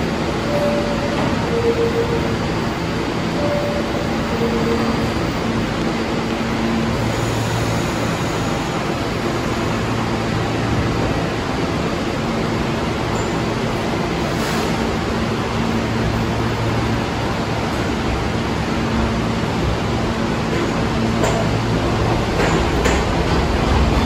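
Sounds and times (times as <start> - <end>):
subway train rumble and hiss: 0.0 - 24.0.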